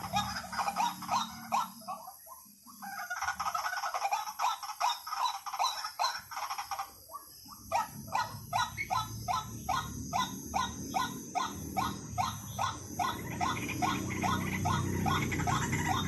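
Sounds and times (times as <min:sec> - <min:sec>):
waterhen calling: 0:00.0 - 0:02.2, 0:02.8 - 0:16.0.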